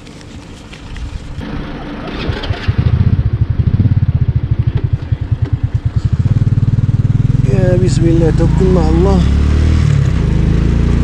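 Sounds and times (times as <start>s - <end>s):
motorcycle engine starting and idling: 0.7s - 11.0s.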